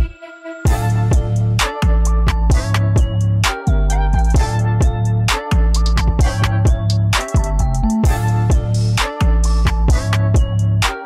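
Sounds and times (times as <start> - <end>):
music with drum beat and bass: 0.7 - 11.0.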